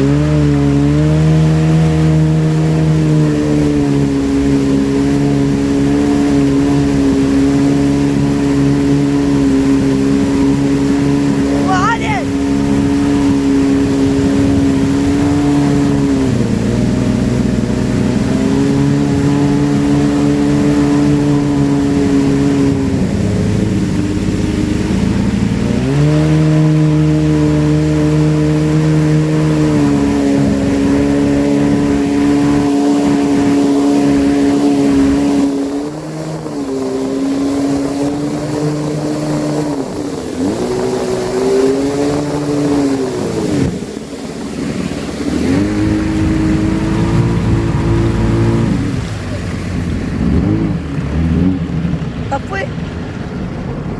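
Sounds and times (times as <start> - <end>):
jet ski engine running: 0.0 - 53.9.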